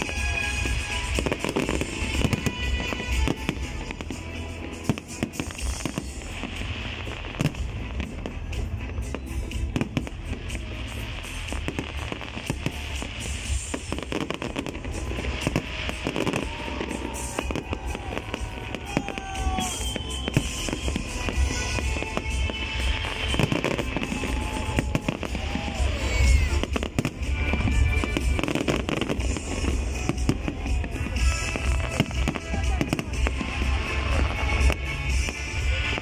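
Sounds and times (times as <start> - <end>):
music playing: 0.0 - 36.0.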